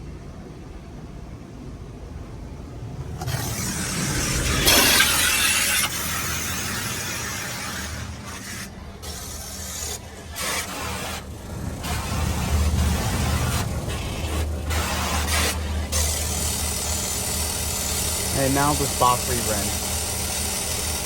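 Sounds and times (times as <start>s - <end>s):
car wash water jets spraying: 3.0s - 21.0s.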